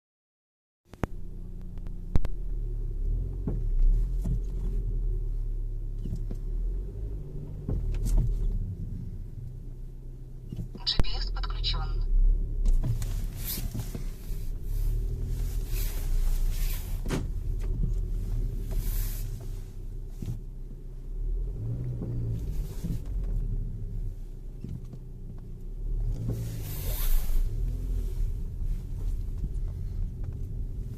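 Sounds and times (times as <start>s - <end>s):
car engine humming: 0.9s - 30.9s.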